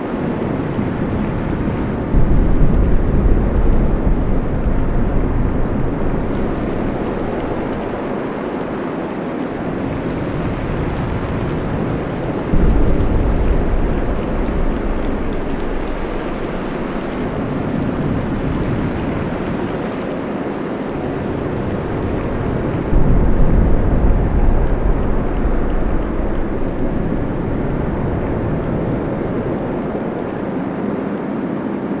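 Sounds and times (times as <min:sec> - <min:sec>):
storm wind sea and rain roar: 0:00.0 - 0:32.0
deep rumble: 0:00.6 - 0:08.8, 0:09.8 - 0:19.9, 0:21.1 - 0:30.6.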